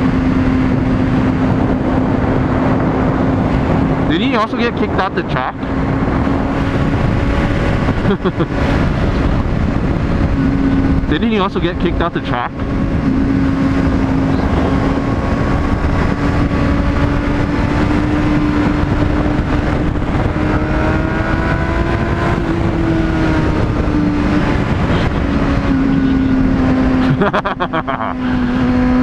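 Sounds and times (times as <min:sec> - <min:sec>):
motorcycle engine running: 0:00.0 - 0:29.0
wind rush on microphone: 0:00.0 - 0:29.0.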